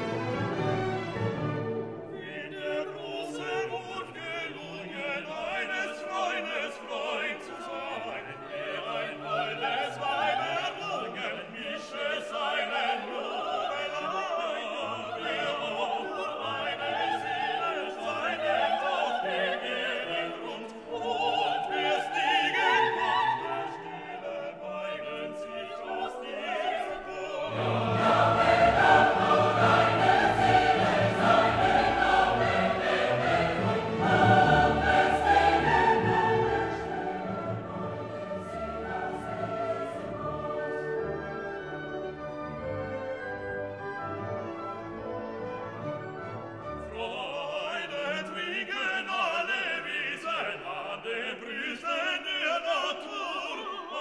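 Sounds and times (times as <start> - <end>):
operatic singing with orchestra: 0.0 - 54.0.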